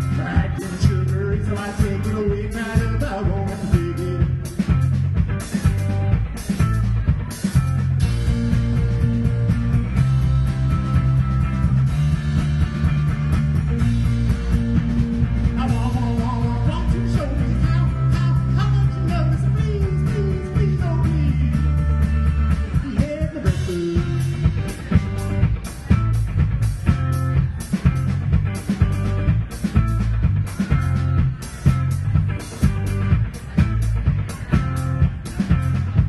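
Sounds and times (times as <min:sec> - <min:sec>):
rock band playing live: 0:00.0 - 0:36.0.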